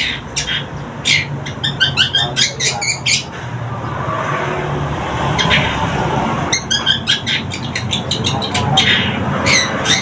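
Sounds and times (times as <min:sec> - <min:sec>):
rushing traffic noise: 0:00.0 - 0:10.0.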